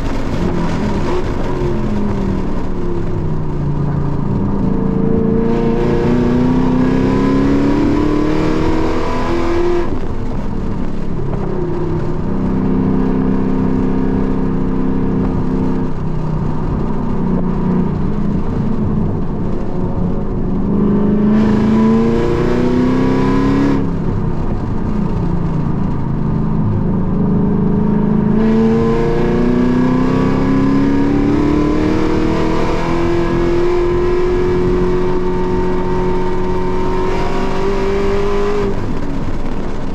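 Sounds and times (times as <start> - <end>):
car engine revving through gears: 0.0 - 39.8.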